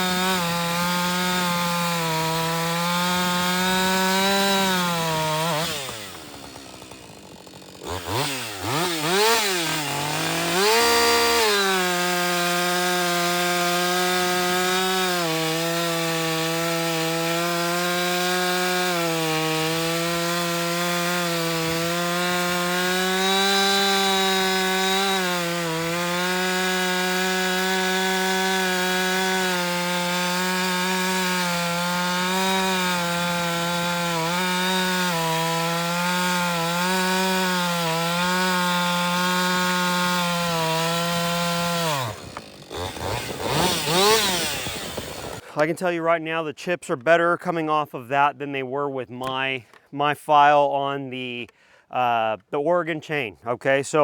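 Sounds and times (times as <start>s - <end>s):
chainsaw cutting wood: 0.0s - 45.8s, 49.2s - 49.9s.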